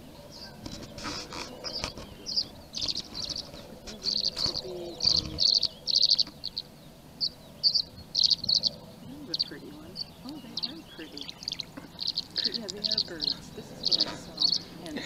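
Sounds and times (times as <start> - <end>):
swallows twittering: 0.0 - 15.0.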